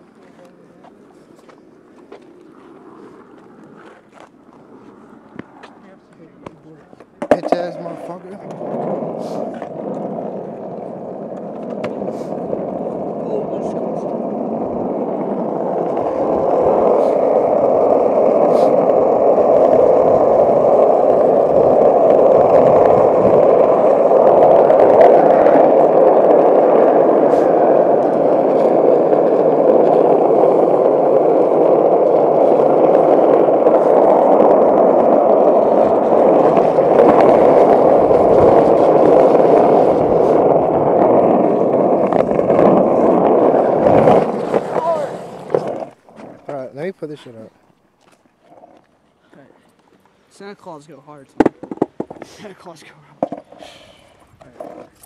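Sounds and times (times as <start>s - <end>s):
skateboard wheels rolling on asphalt: 0.0s - 55.0s.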